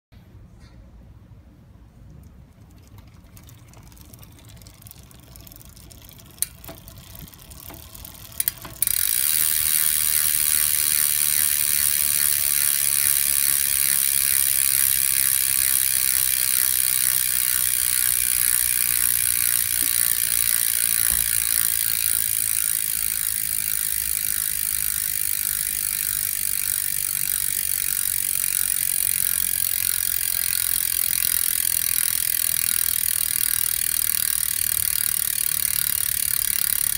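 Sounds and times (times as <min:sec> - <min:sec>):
bicycle freehub ratcheting buzz: 0:02.7 - 0:36.9.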